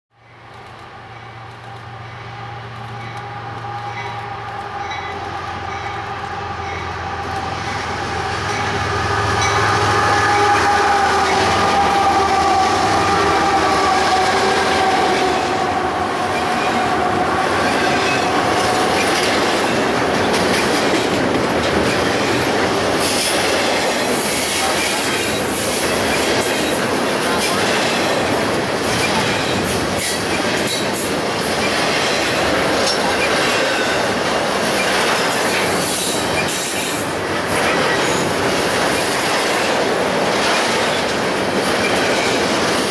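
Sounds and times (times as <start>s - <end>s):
locomotive tone: 0.2s - 39.7s
train wheels rumbling on rails: 0.2s - 42.9s.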